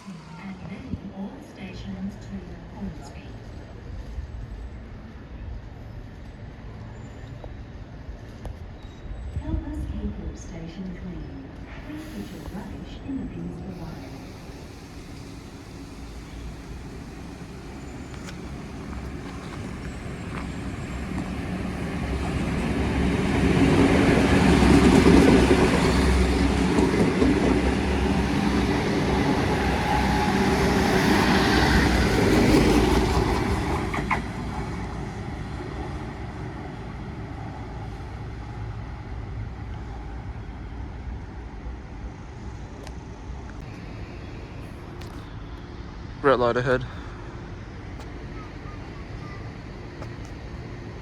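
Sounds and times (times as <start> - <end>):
train rumbling past: 0.0 - 51.0.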